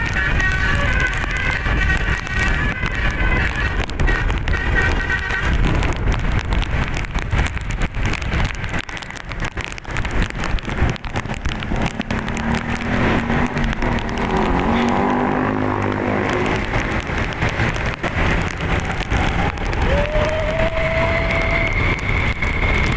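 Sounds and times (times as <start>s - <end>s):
bus engine and road noise: 0.0s - 22.9s.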